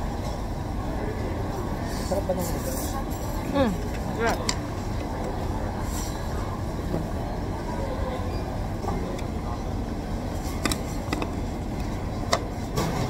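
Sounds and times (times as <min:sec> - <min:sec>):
restaurant background rumble: 0:00.0 - 0:13.0.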